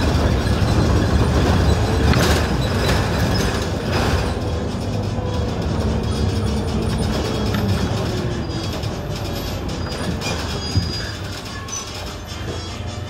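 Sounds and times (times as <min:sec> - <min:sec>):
bus engine rumble and whine: 0:00.0 - 0:13.0.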